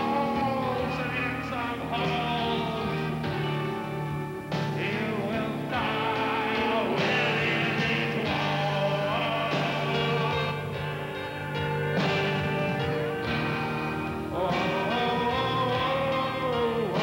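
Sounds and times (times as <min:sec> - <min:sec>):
person singing: 0:00.0 - 0:17.0
rock music with guitar: 0:00.0 - 0:17.0.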